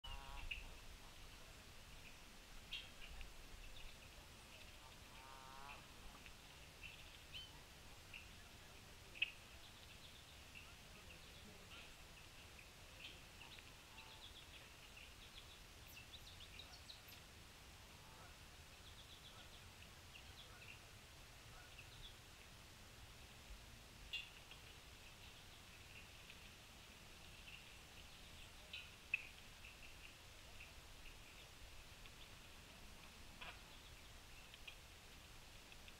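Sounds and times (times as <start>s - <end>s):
small birds chirping: 0.0s - 23.4s, 24.0s - 35.9s.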